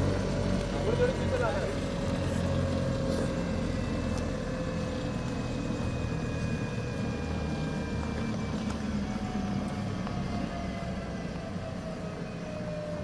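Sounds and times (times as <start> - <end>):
engine rumbling with faint whine: 0.0 - 13.0.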